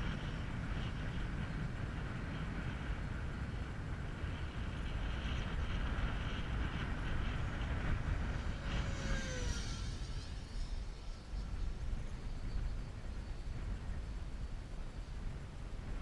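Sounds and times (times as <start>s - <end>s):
model jet whine: 0.0s - 16.0s
wind rumble on microphone: 0.0s - 16.0s.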